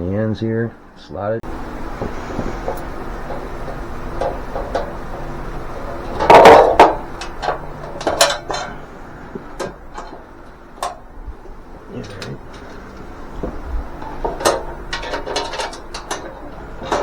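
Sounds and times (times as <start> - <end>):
steel panels clanking and rattling: 1.4 - 17.0
light metal clicks and taps: 2.0 - 17.0.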